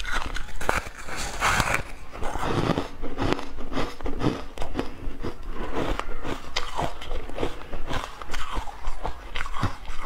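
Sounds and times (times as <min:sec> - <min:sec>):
ice crunching while chewing: 0:00.0 - 0:10.0.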